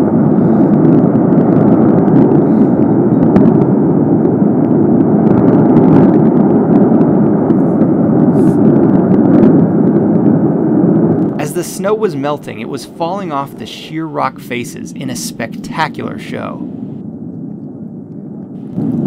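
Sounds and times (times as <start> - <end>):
avalanche rumble: 0.0 - 19.0.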